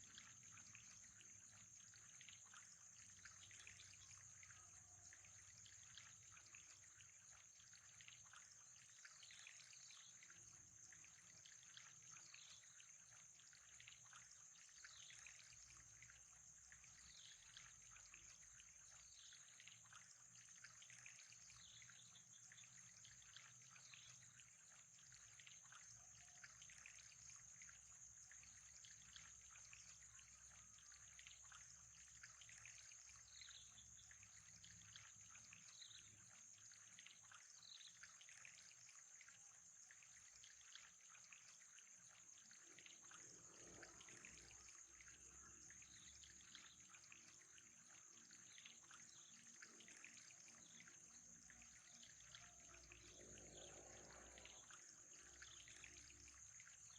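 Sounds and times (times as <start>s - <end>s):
trickling bubbling water: 0.0s - 56.9s.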